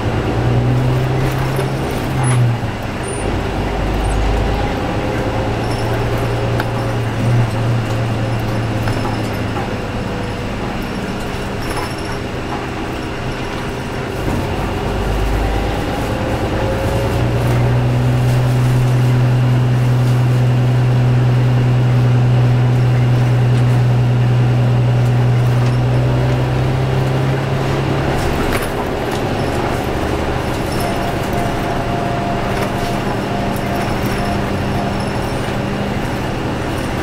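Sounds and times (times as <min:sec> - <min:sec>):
bus diesel engine droning: 0:00.0 - 0:37.0.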